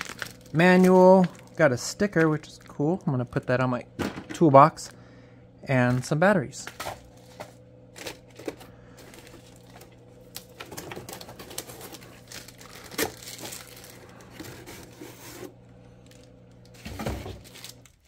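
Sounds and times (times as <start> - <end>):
cardboard and plastic rustling: 0.0 - 3.3, 5.8 - 18.0
faint steady hum: 0.0 - 18.0.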